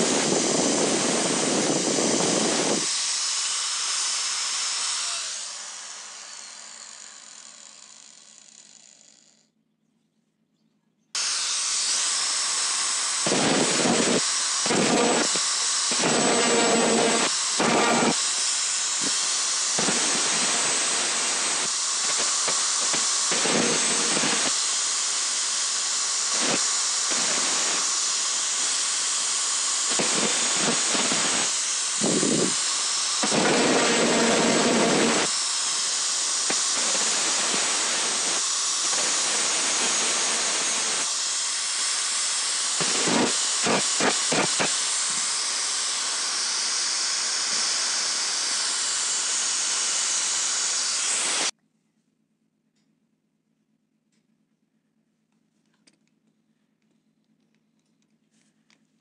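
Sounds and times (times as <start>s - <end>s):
angle grinder grinding steel: 0.0s - 9.4s, 11.2s - 51.5s.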